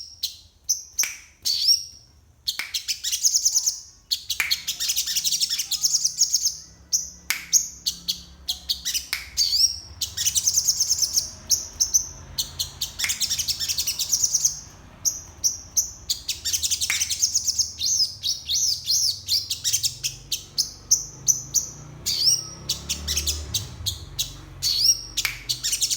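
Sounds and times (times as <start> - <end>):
songbird singing chirps and trills: 0.0 - 25.9.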